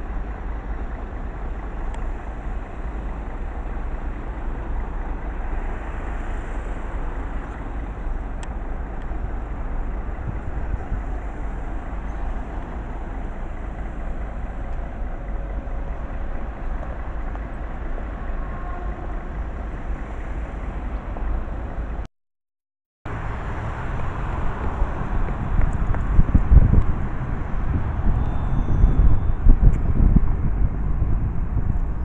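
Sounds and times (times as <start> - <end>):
city road traffic rumble: 0.0 - 22.1, 23.1 - 32.0.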